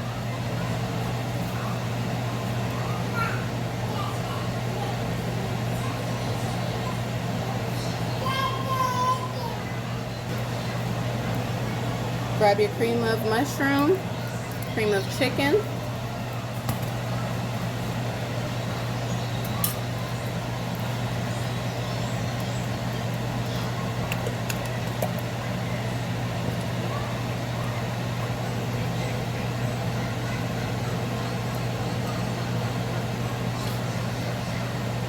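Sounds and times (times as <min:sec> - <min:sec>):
kitchen appliance humming: 0:00.0 - 0:35.0.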